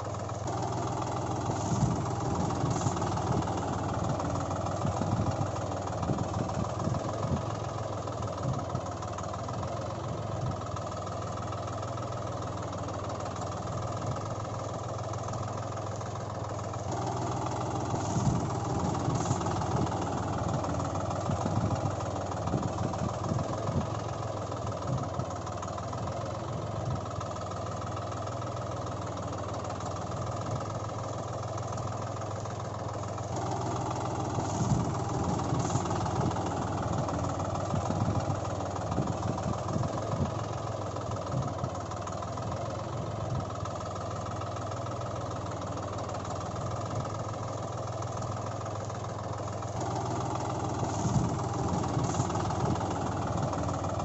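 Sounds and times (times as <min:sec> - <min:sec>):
tractor engine idling: 0:00.0 - 0:54.0.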